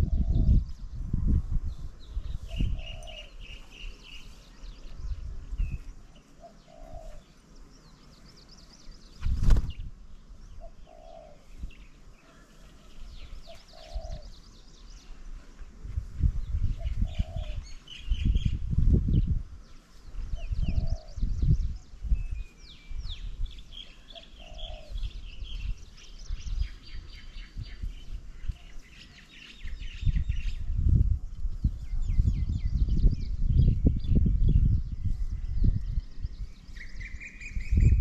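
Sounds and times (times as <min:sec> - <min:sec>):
birds chirping: 0:01.7 - 0:30.7, 0:31.4 - 0:38.0.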